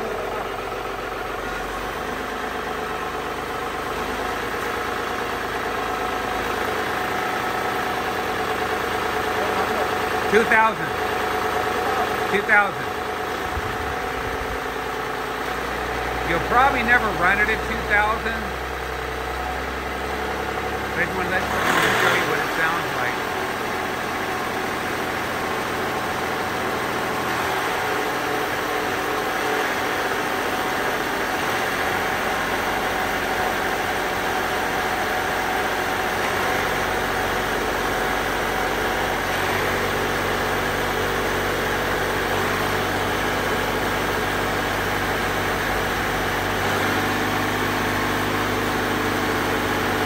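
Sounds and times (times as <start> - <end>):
diesel pump engine running: 0.0 - 50.0.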